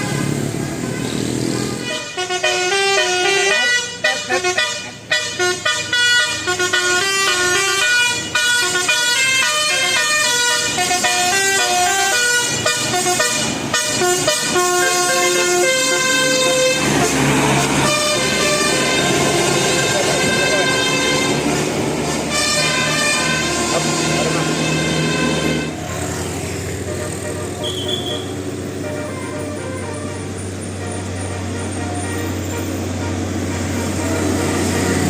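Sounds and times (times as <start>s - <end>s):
bus musical horn melody: 0.0s - 35.0s
vehicle engine noise: 0.0s - 35.0s.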